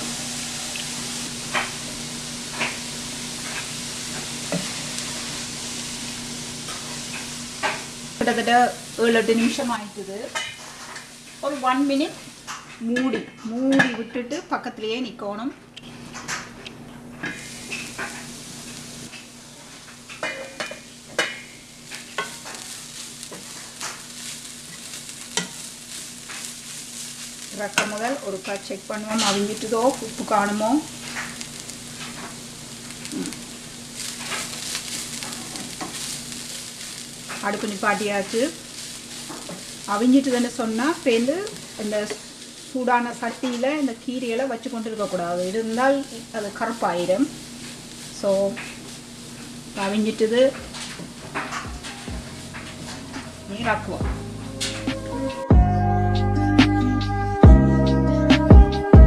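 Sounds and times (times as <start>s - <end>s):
greens sizzling in a frying pan: 0.0s - 55.8s.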